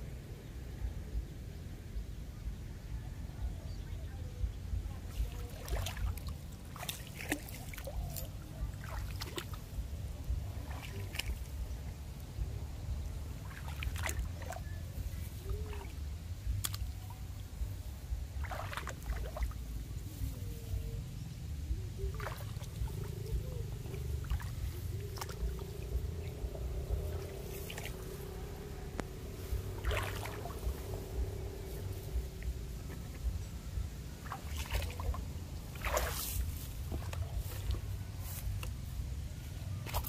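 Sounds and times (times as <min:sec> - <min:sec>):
steady low rumble: 0:00.0 - 0:40.0
water sloshing and splashing: 0:05.0 - 0:21.0, 0:21.7 - 0:40.0.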